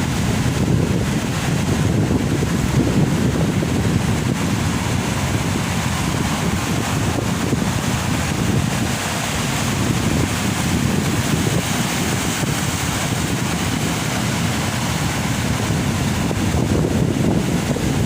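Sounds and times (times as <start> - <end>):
ocean waves breaking: 0.0 - 18.0
wind buffeting microphone: 0.0 - 18.0.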